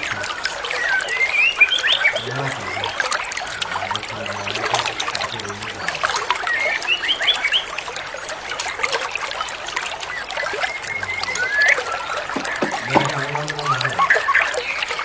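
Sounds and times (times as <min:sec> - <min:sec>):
songbirds chirping: 0:00.0 - 0:15.0
trickling water: 0:00.0 - 0:15.0.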